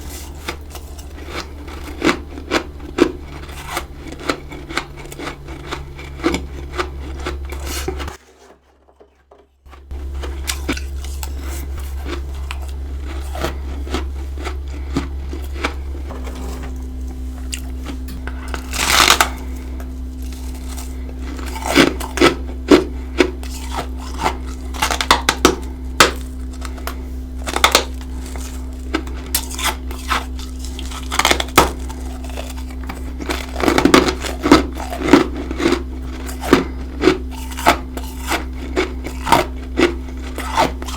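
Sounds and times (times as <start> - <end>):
steady low hum: 0.0 - 8.2, 9.6 - 40.9
frost crunching being chewed: 0.0 - 8.6, 9.6 - 40.9.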